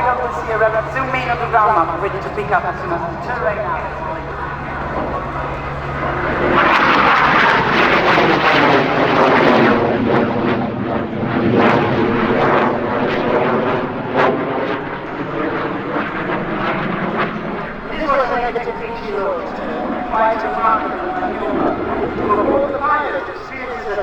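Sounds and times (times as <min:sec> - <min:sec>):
jet flying past: 0:00.0 - 0:24.0.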